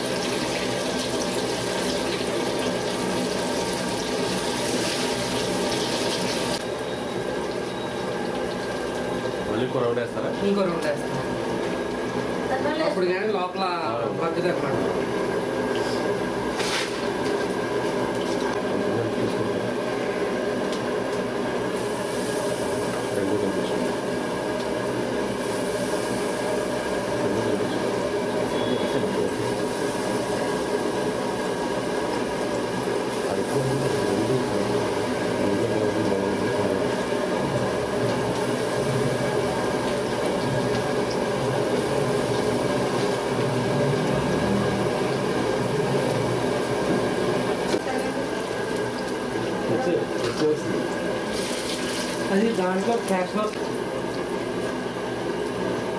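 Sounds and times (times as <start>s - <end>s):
mechanical hum and rumble: 0.0s - 55.9s.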